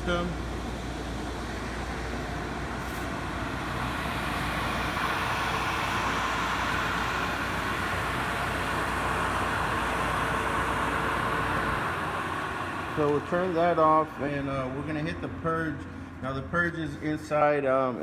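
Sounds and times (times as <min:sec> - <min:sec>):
dehumidifier fan humming: 0:00.0 - 0:18.0.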